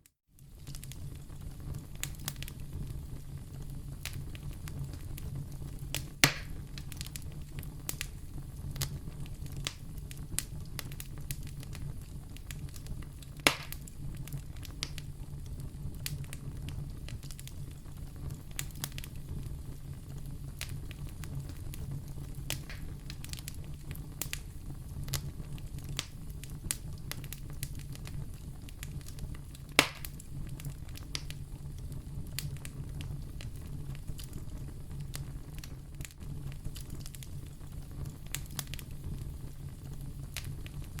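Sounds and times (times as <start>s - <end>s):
fire pops: 0.4s - 41.0s
wood fire crackling: 0.4s - 41.0s.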